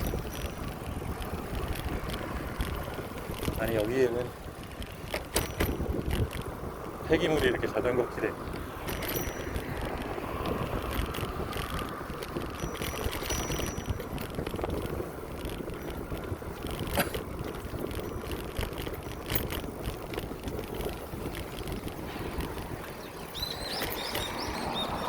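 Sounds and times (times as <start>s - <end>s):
bicycle tyres rumbling: 0.0s - 25.0s
bike clicks and rattles: 0.0s - 25.0s
wind on microphone: 0.0s - 25.0s.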